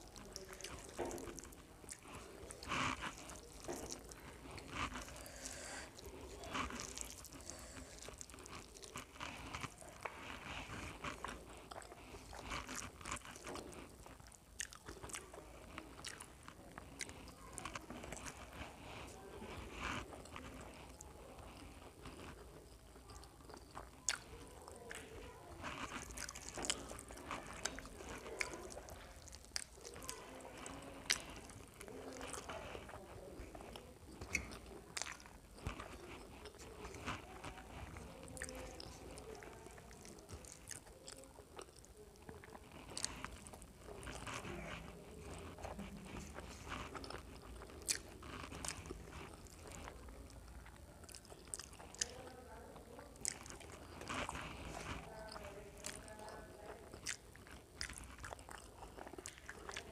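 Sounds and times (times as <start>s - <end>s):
person chewing: 0.0s - 59.9s.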